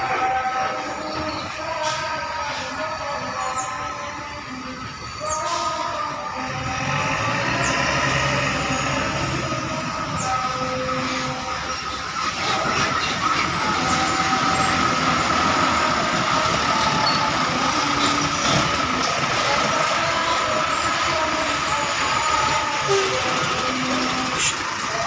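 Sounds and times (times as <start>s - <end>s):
bus engines running with whine: 0.0s - 25.0s.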